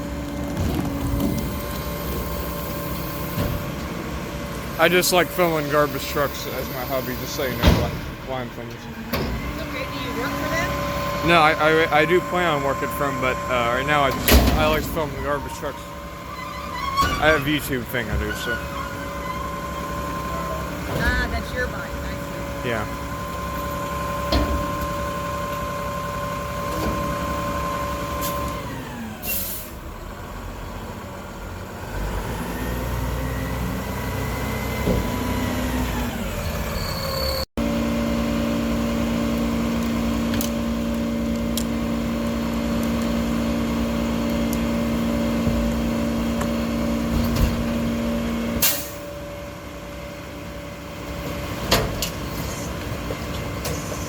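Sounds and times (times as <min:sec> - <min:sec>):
diesel engine revving with whine: 0:00.0 - 0:16.5, 0:17.1 - 0:54.0.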